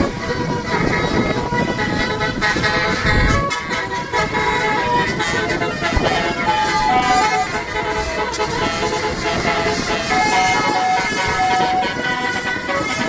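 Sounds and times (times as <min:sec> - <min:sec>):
musical bus horn playing a tune: 0:00.0 - 0:13.0.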